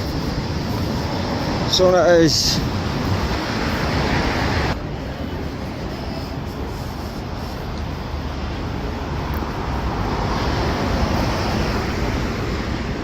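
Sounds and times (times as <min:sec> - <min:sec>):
street traffic noise: 0:00.0 - 0:13.0
vehicle passing close: 0:00.0 - 0:13.0.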